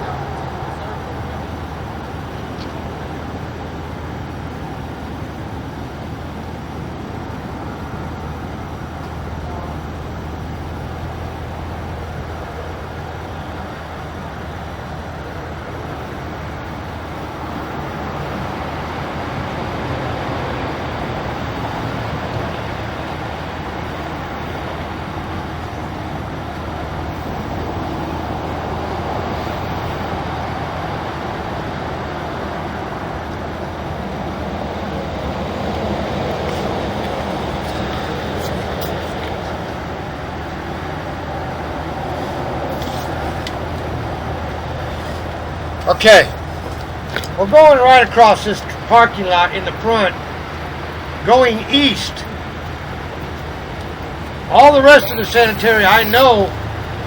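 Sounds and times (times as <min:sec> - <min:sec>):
low engine hum: 0:00.0 - 0:57.0
road traffic noise: 0:00.0 - 0:57.0.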